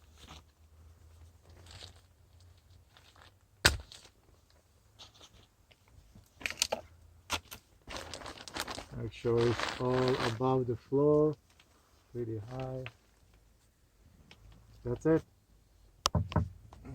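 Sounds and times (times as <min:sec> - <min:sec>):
crinkling and crunching ductwork: 0:00.0 - 0:15.3.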